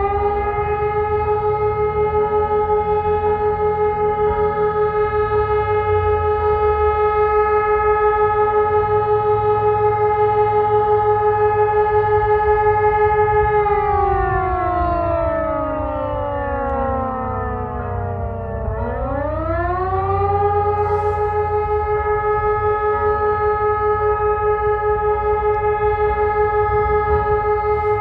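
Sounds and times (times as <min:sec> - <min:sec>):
civil defence siren wailing: 0:00.0 - 0:28.0.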